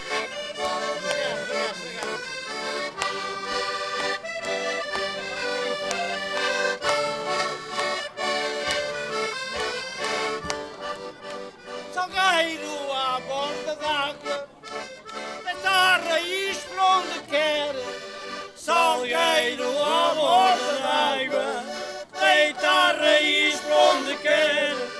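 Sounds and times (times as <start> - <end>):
concertinas playing folk tune: 0.0 - 24.9.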